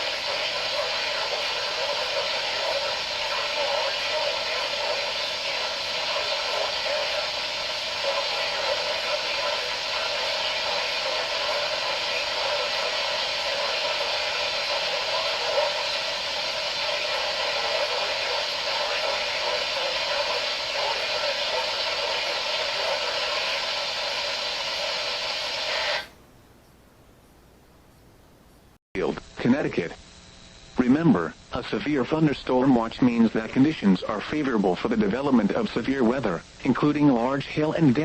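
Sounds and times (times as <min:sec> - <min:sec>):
radio static hiss: 0:00.0 - 0:26.2, 0:29.0 - 0:38.0.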